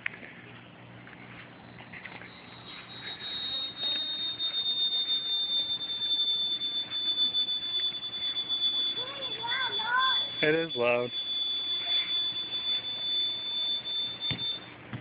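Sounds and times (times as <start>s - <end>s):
high-pitched two-tone whistle: 2.0s - 14.7s.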